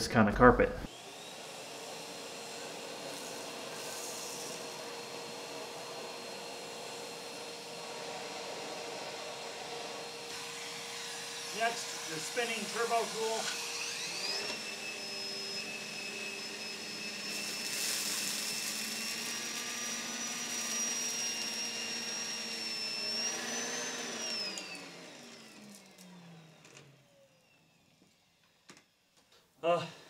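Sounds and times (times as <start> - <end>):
vacuum cleaner running: 0.9 - 29.0.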